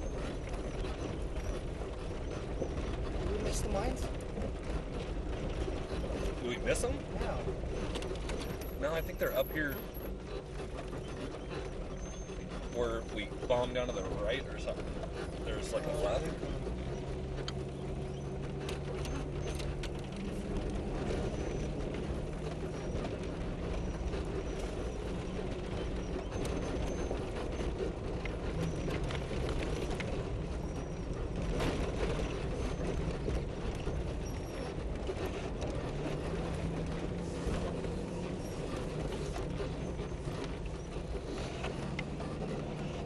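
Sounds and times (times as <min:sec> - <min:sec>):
body rattles and knocks: 0:00.0 - 0:43.0
vehicle engine drone: 0:00.0 - 0:43.0.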